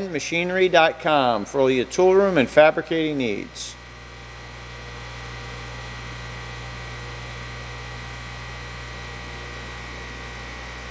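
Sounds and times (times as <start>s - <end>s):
grinder spindle motor hum: 0.0s - 10.9s.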